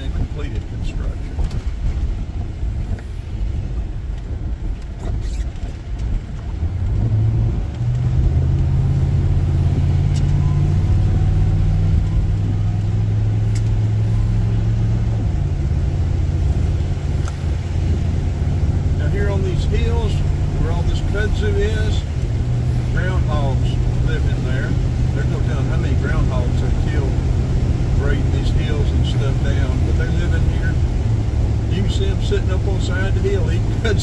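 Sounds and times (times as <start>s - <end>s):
car engine and road noise: 0.0s - 34.0s
steady low drone: 6.1s - 34.0s.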